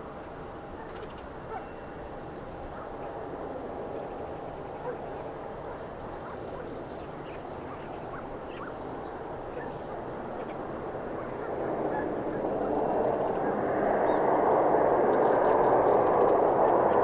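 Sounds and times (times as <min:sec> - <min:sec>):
distant jet engine rumble: 0:01.3 - 0:17.0.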